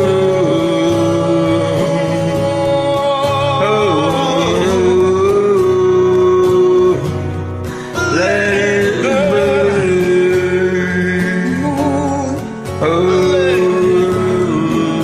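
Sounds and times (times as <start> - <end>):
person singing long ooh notes: 0.0 - 7.2, 7.8 - 15.0
backing music: 0.0 - 15.0.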